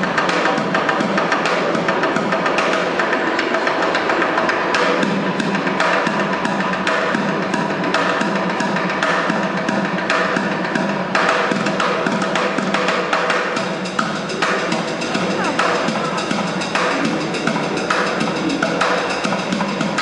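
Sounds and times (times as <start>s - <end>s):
fast street drumming: 0.0s - 20.0s.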